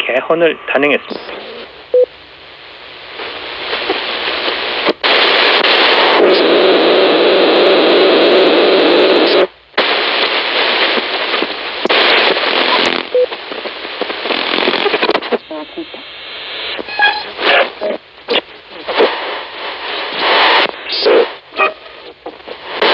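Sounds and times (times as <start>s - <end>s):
heavy rushing radio noise: 0.0s - 22.9s
shortwave radio hiss and static: 0.0s - 22.9s.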